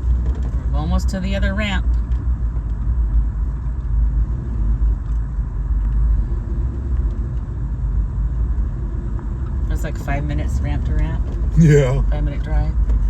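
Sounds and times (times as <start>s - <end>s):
engine and tyres rumbling on sand: 0.0s - 11.3s.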